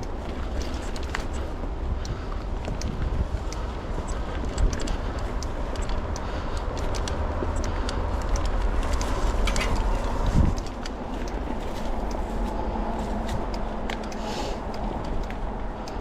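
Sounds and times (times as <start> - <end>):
bike clicks and rattles: 0.0 - 16.0
bike tyre noise: 0.0 - 16.0
wind rumble on microphone: 0.0 - 16.0.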